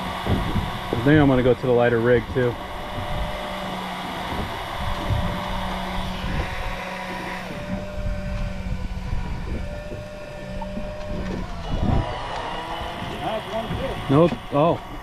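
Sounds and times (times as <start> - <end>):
boat engine idling: 0.0 - 15.0
water noise: 0.0 - 15.0
wind: 0.0 - 15.0.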